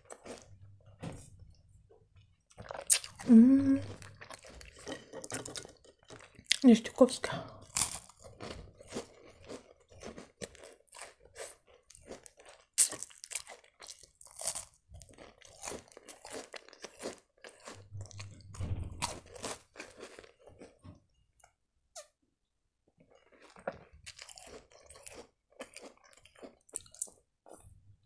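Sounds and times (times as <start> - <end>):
biscuits crunching and chewing: 0.0 - 0.8, 2.2 - 20.9, 23.0 - 27.8.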